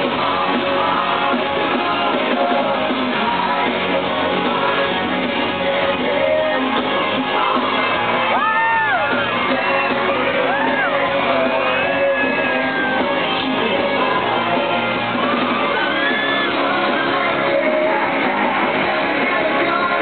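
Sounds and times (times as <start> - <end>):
person singing: 0.0 - 14.9, 15.6 - 20.0
fans screaming: 0.0 - 20.0
live pop-rock band: 0.0 - 20.0.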